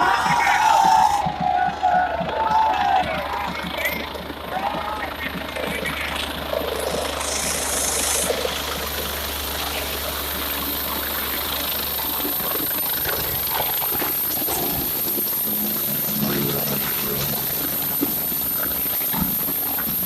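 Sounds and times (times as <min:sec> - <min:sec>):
helicopter engine and rotor: 0:00.0 - 0:20.0
steady low hum: 0:00.0 - 0:20.0.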